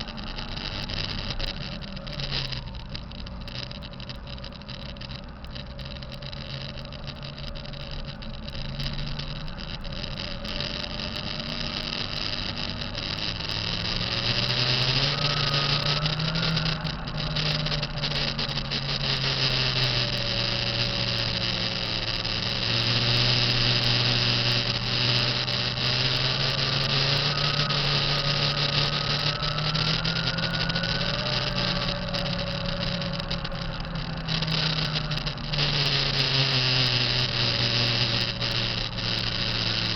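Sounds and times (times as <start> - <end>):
engine whine: 0.0 - 39.9
truck diesel engine running: 0.0 - 39.9.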